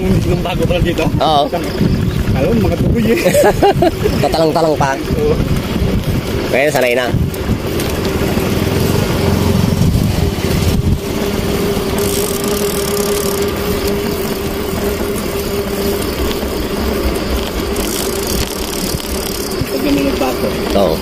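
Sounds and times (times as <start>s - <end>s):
constant humming tone: 0.0s - 21.0s
motorcycle engine running: 0.0s - 21.0s.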